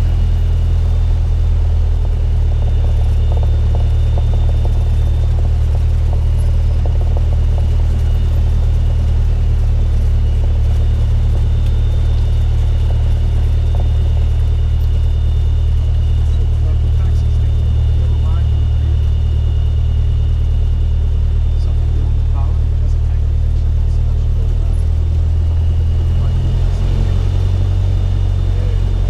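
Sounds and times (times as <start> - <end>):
faint high whine: 0.0 - 29.0
propeller plane engine drone: 0.0 - 29.0.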